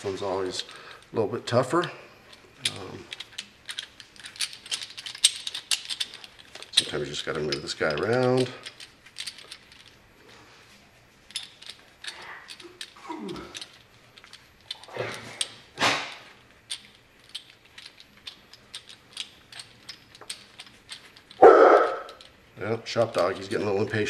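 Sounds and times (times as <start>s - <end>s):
steel balls clicking in joint: 0.4s - 10.0s, 11.2s - 24.0s.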